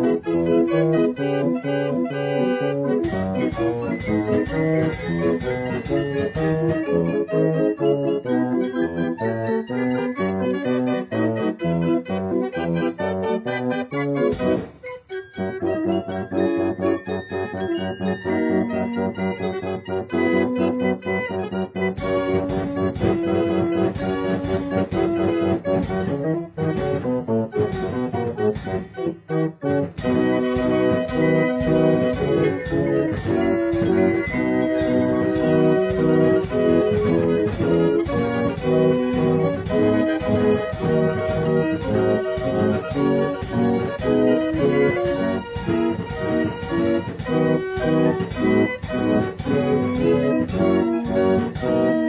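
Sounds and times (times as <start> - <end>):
keyboard tune over a beat: 0.0 - 52.0.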